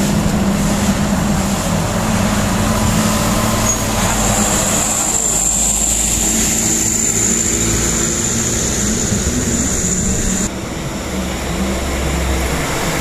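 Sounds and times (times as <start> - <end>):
diesel truck engines droning: 0.0 - 13.0.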